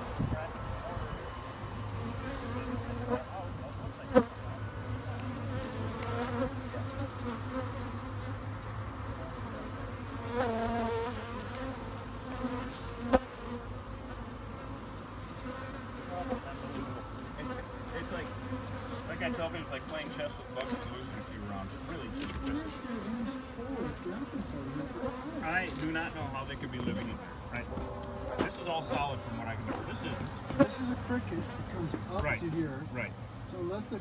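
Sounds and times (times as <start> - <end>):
honey bees buzzing: 0.0 - 34.0.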